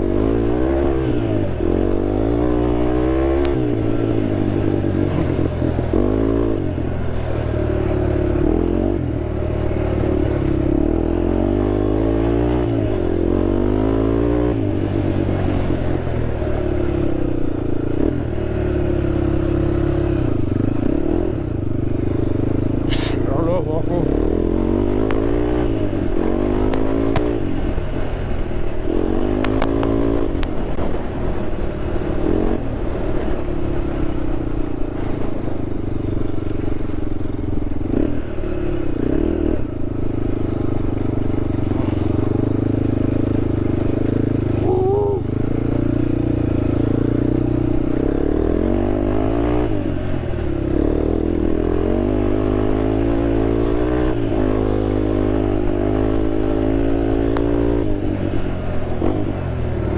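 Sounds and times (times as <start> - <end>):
quad engine revving: 0.0 - 31.0, 31.8 - 34.1, 37.8 - 59.9.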